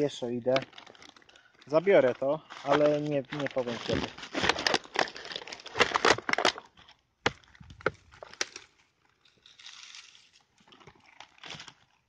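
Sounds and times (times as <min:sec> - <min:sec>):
twigs and litter crackling: 0:00.0 - 0:12.0.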